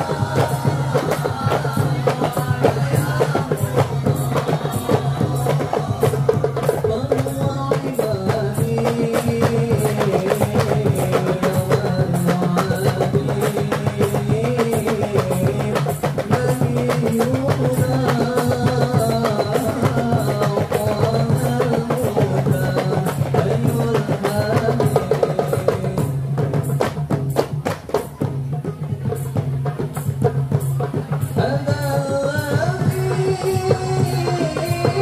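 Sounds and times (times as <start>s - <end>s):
person singing into microphone: 0.0s - 26.9s, 28.2s - 35.0s
hand drums beating fast rhythm: 0.0s - 35.0s.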